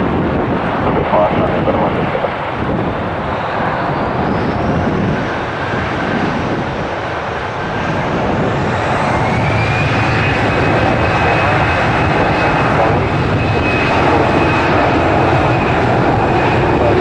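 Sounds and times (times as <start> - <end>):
jet engines whining: 0.0 - 17.0.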